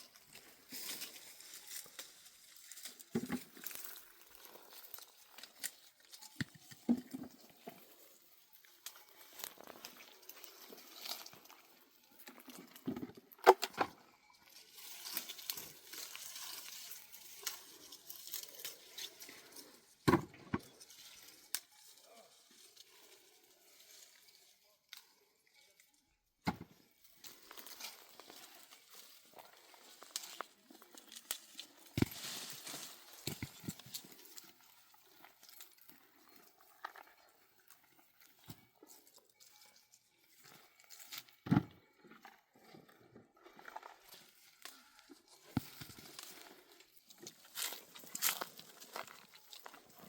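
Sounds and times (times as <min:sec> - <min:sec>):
rustling and crinkling: 0:00.0 - 0:26.0, 0:26.6 - 0:50.0.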